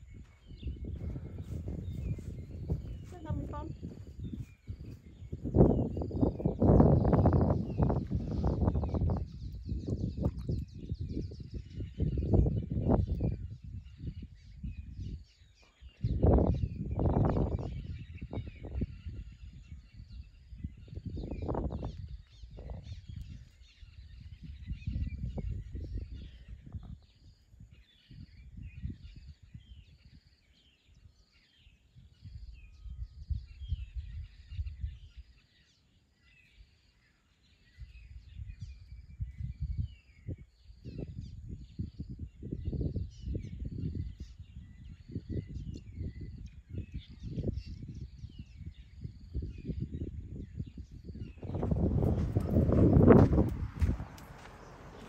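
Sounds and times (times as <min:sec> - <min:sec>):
small birds chirping: 0:00.0 - 0:55.0
wind rumbling on microphone: 0:00.0 - 0:55.0.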